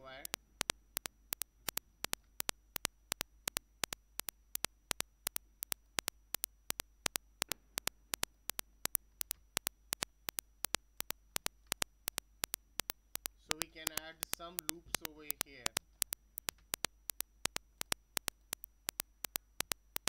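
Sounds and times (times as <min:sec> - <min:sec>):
computer mouse clicks: 0:00.2 - 0:20.0.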